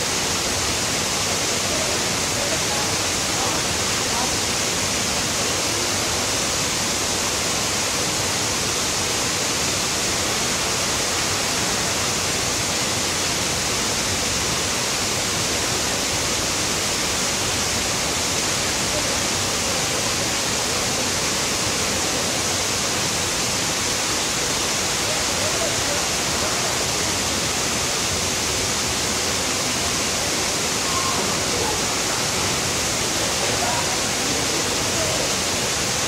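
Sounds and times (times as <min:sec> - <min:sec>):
loud rushing water: 0:00.0 - 0:36.0.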